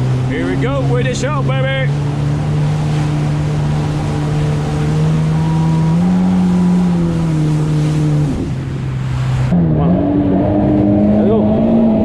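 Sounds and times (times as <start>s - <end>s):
jet ski engine: 0.0s - 12.0s
rushing water: 0.0s - 12.0s
wind: 0.0s - 12.0s.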